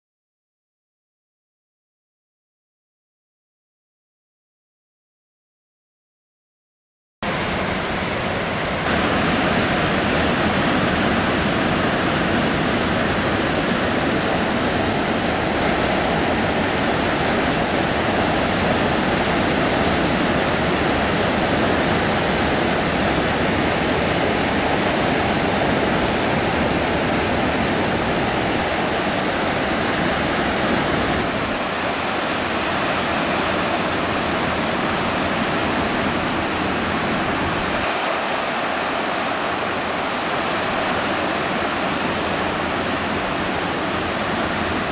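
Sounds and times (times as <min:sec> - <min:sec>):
sea surf breaking on rocks: 0:07.3 - 0:44.9.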